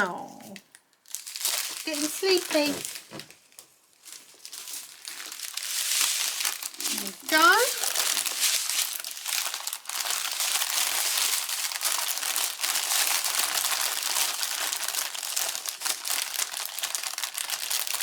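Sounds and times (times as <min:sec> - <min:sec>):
plastic packaging crinkling: 0:00.4 - 0:18.0.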